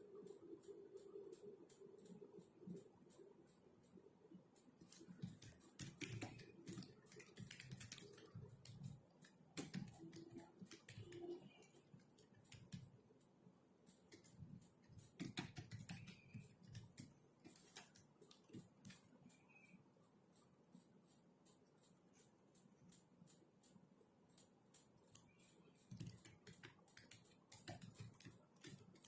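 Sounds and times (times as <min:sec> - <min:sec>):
faint keyboard typing: 0:00.0 - 0:29.0.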